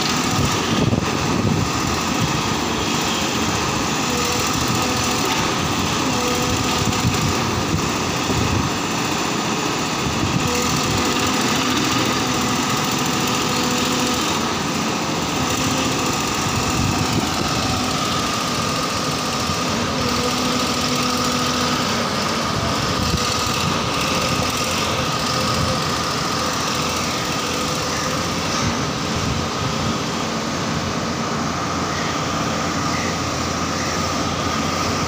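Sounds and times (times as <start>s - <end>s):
vibratory hammer machine droning: 0.0s - 35.0s.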